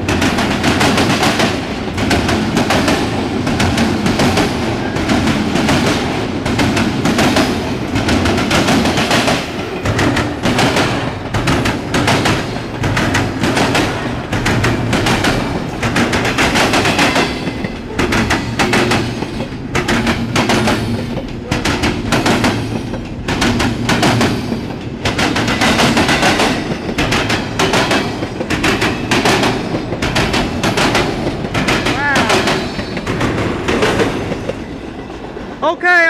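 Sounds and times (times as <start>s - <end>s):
train wheels clattering over joints: 0.0s - 35.6s.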